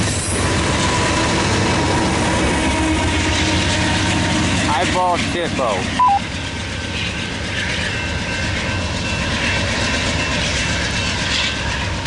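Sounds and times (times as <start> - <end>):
train rumbling past on track: 0.0 - 12.0.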